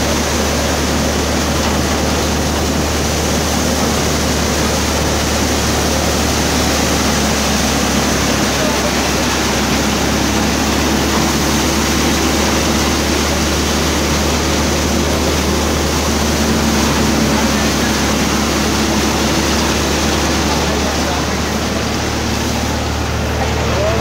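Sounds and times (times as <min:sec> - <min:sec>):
grain thresher drone: 0:00.0 - 0:24.0.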